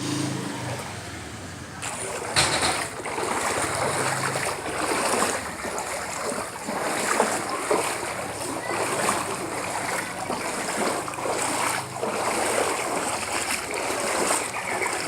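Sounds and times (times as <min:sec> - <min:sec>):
floodwater rushing and splashing: 0:00.0 - 0:15.0
loud water splash: 0:01.8 - 0:15.0.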